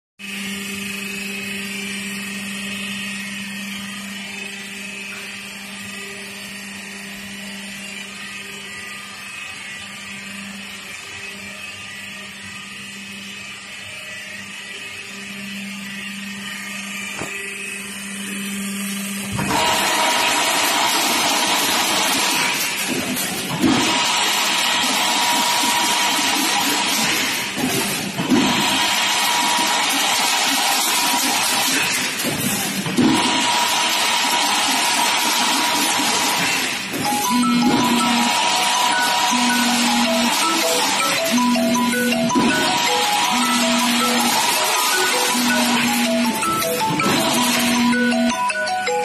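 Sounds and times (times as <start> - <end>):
high machine whine: 0.2 - 49.0
loud harsh machine noise: 0.2 - 49.0
machine motor hum: 0.2 - 49.0.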